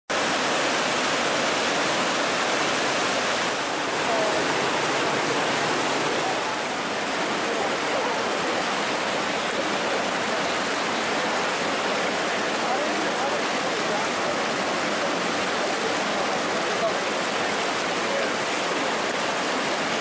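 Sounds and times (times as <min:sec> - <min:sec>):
river rapids rushing: 0:00.1 - 0:20.0.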